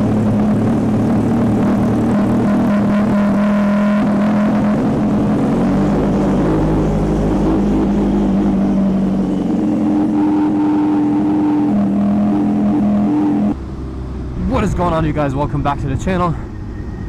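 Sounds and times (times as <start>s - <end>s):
motorcycle engine running loud: 0.0s - 14.9s.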